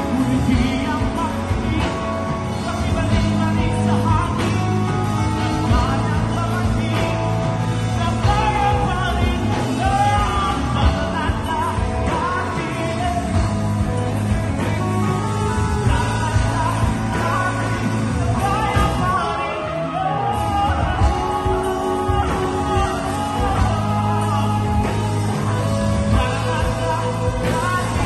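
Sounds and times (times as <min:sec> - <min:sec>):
drums: 0:00.0 - 0:28.0
keyboard: 0:00.0 - 0:28.0
person singing: 0:00.0 - 0:28.0.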